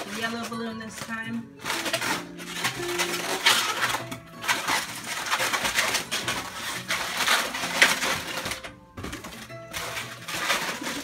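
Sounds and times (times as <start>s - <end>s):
balloons squeaking and rubbing: 0.0s - 11.0s.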